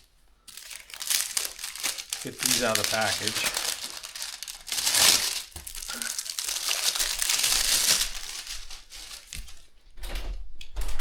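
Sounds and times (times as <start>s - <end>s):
packaging crinkling: 0.0s - 9.7s.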